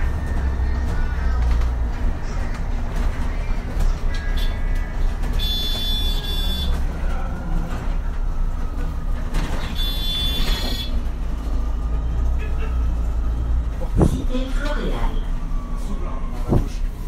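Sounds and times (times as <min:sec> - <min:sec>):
bus engine drone with whine: 0:00.0 - 0:17.0.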